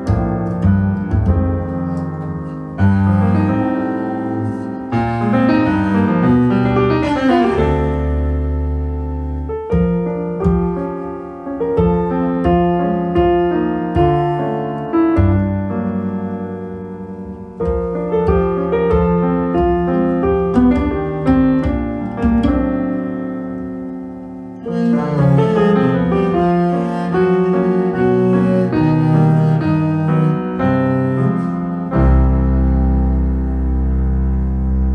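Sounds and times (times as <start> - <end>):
deep bass line: 0.0 - 23.2, 24.6 - 34.9
piano music: 0.0 - 34.9.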